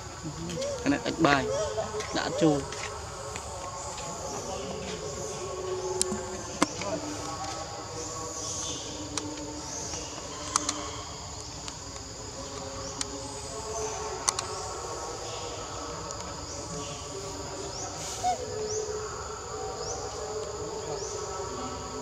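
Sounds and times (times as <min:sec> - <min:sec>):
insect chirps: 0:00.0 - 0:22.0
insects droning: 0:00.0 - 0:22.0.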